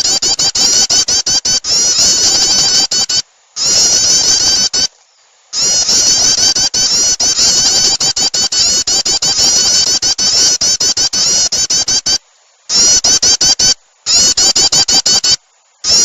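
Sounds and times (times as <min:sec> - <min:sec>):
bird high chirps: 0:00.0 - 0:04.9, 0:05.6 - 0:16.0.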